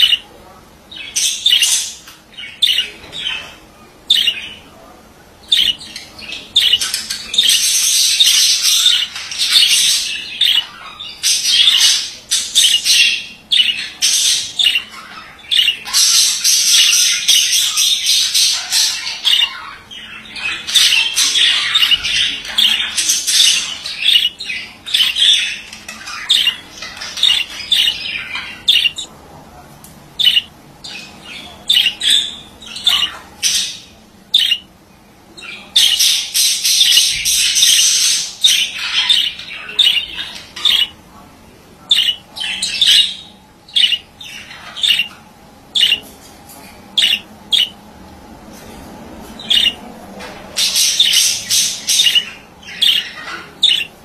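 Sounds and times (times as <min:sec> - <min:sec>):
budgerigar warbling and chattering: 0:00.0 - 0:04.7, 0:05.4 - 0:29.1, 0:30.2 - 0:34.7, 0:35.4 - 0:41.1, 0:41.8 - 0:46.1, 0:46.8 - 0:47.8, 0:49.4 - 0:54.0.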